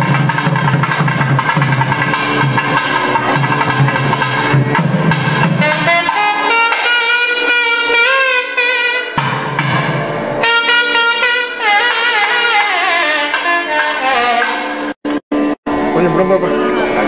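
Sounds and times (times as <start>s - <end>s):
drumming: 0.0s - 13.9s
reed pipe melody: 0.0s - 17.0s.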